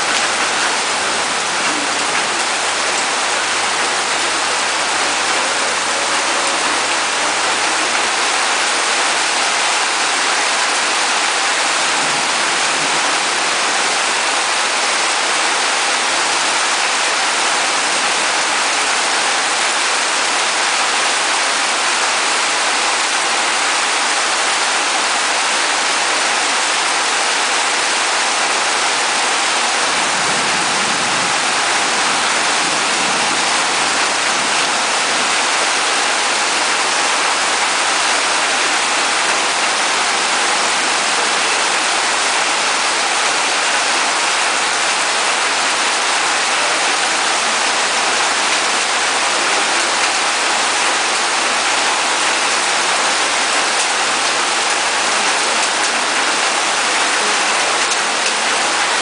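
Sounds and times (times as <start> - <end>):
heavy rain on stone paving: 0.0 - 59.0.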